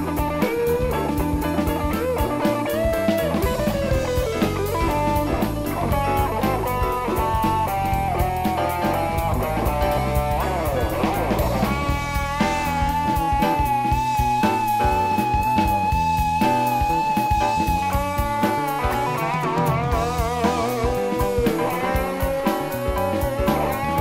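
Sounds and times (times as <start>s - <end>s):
drum kit beat: 0.0s - 24.0s
electric guitar lead line: 0.0s - 24.0s.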